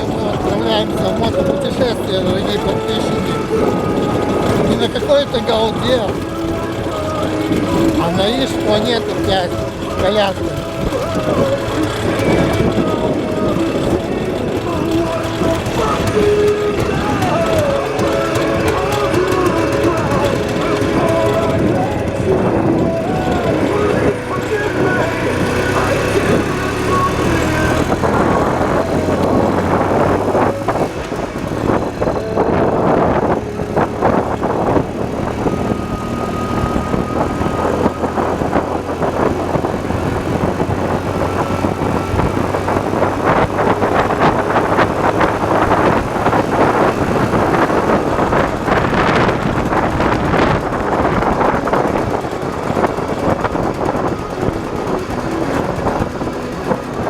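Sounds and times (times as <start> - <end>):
motorcycle two-stroke engine running: 0.0 - 57.0
road noise: 0.0 - 57.0
wind: 0.0 - 57.0.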